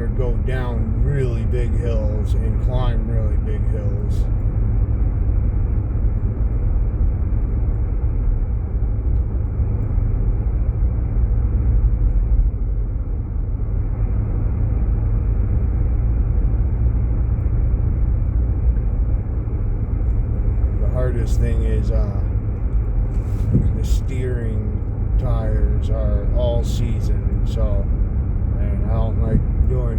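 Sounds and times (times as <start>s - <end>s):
car cabin road and engine rumble: 0.0s - 29.9s.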